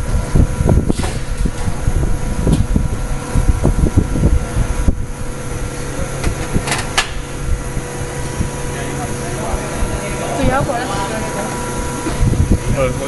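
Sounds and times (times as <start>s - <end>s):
machine hum with whining tones: 0.0s - 13.0s.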